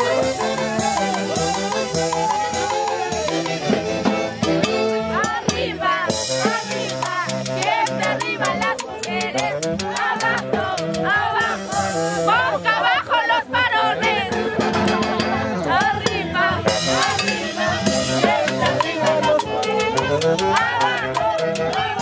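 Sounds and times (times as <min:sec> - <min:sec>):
cymbal and drum beat: 0:00.0 - 0:12.7, 0:14.0 - 0:22.0
saxophones playing dance music: 0:00.0 - 0:22.0.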